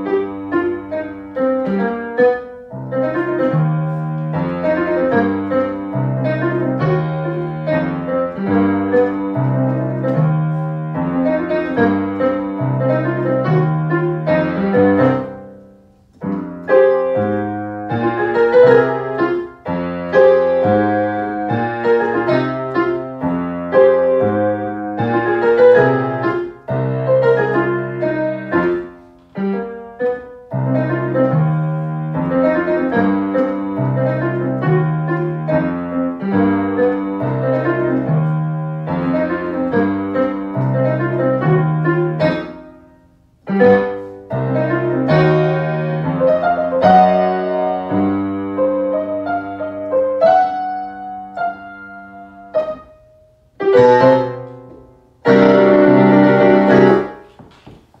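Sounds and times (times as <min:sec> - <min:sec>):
digital piano piece: 0:00.0 - 0:58.0.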